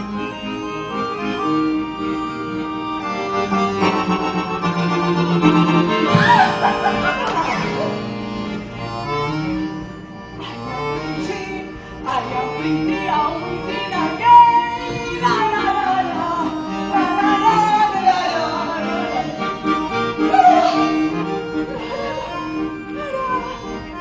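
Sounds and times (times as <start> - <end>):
instrumental music: 0.0 - 24.0.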